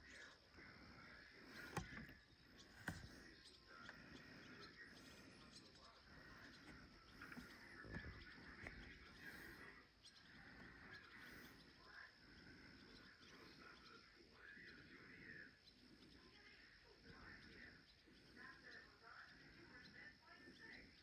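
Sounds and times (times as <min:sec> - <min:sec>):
faint insect chorus trilling: 0:00.0 - 0:21.0.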